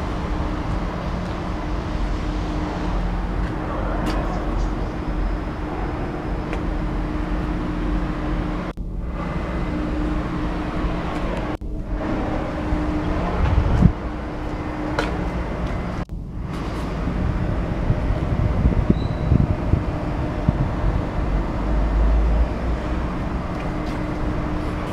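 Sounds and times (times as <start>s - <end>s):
diesel generator running: 0.0s - 24.9s.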